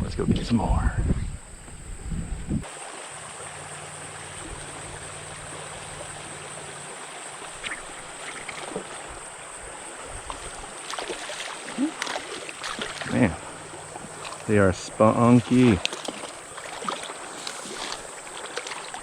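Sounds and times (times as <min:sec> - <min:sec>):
small stream running: 0:02.6 - 0:19.0
faint light splashes: 0:02.8 - 0:19.0.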